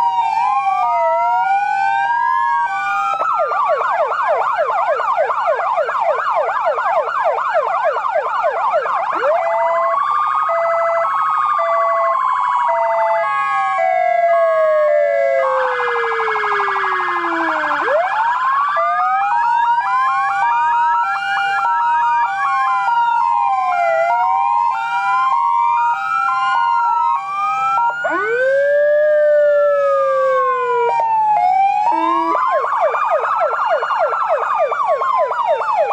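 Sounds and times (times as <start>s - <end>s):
hi-lo two-tone siren: 0.0s - 35.9s
siren wail: 0.0s - 35.9s
sirens yelping: 0.0s - 35.9s.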